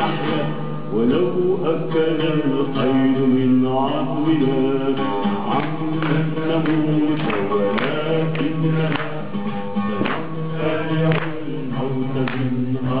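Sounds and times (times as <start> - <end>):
oud playing: 0.0 - 13.0.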